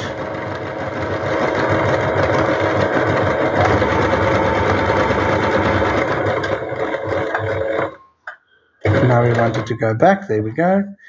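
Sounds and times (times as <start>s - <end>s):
electric sewing machine stitching: 0.0s - 8.0s, 8.8s - 9.8s.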